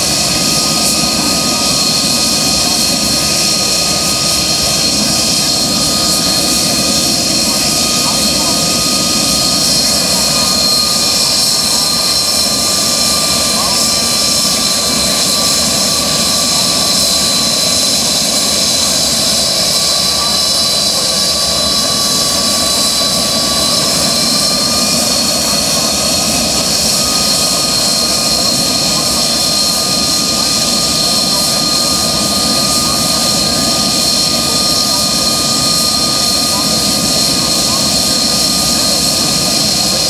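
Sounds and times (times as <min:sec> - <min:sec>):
aircraft turbine engine whine: 0:00.0 - 0:40.0.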